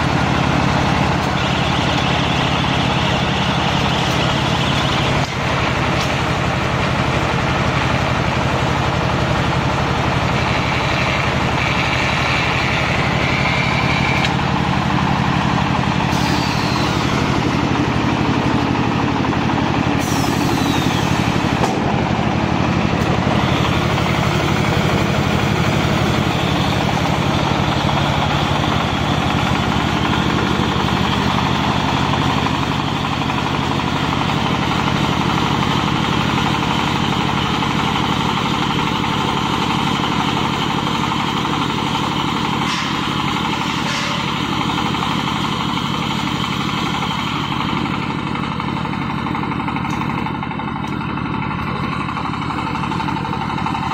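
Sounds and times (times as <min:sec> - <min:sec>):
baler machine droning: 0:00.0 - 0:53.9.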